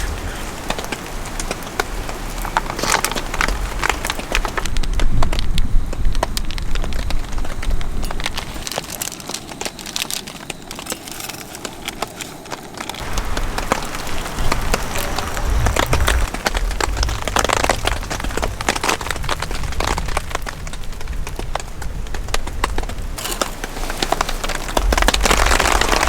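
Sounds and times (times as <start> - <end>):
wind buffeting microphone: 0.0 - 10.9, 11.6 - 26.0
rain pattering on a tarp: 0.0 - 26.0.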